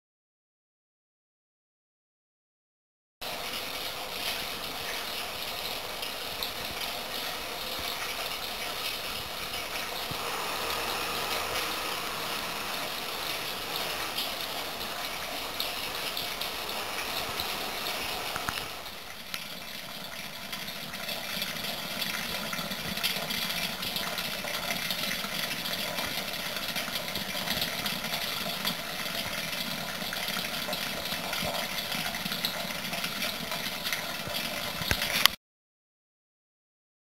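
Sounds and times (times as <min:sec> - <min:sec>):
water running and splashing: 0:03.2 - 0:35.4.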